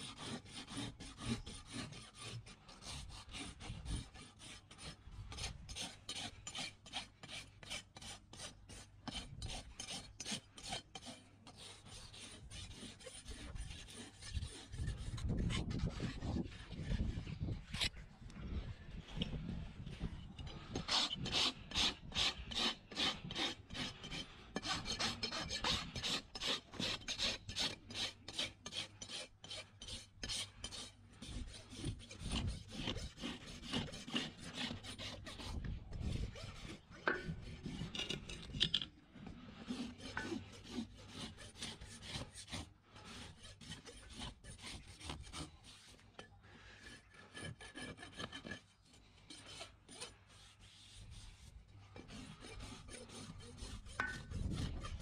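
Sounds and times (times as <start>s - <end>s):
rasp filing a hoof: 0.0s - 55.0s.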